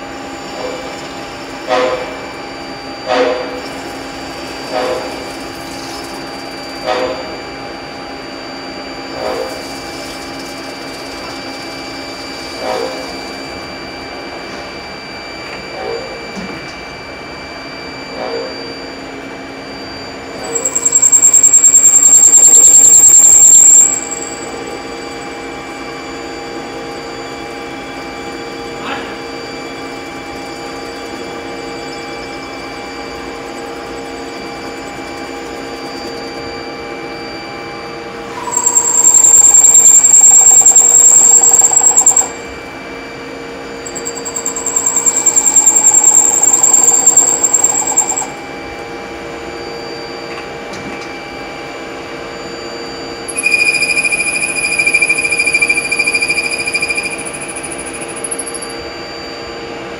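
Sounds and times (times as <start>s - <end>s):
lathe machine hum: 0.0s - 59.9s
loud high-pitched squeal: 0.0s - 59.9s.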